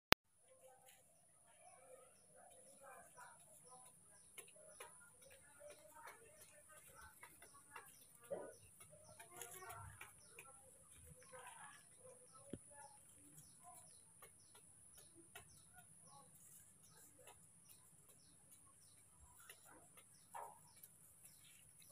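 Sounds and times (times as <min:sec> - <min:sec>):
soft bird calls: 0:00.9 - 0:21.9.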